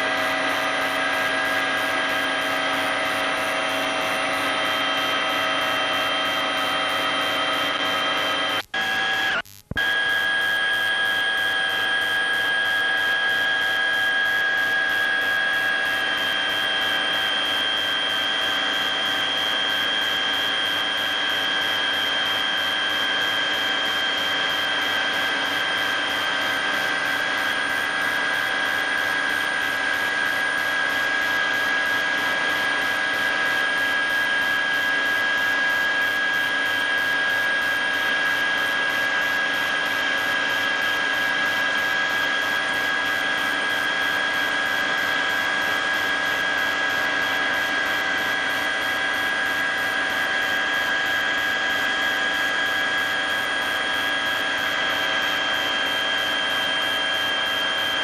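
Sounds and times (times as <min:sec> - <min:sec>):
helicopter turbine whine: 0:00.0 - 0:09.2, 0:10.4 - 0:58.0.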